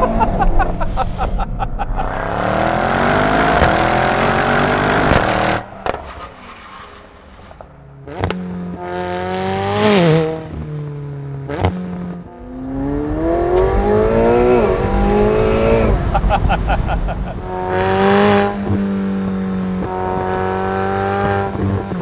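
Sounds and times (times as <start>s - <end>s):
car engine accelerating: 0.0s - 22.0s
second car engine revving: 2.0s - 6.2s, 8.0s - 22.0s.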